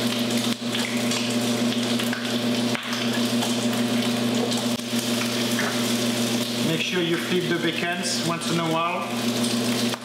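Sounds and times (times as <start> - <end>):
bacon sizzling in a pan: 0.0 - 10.0.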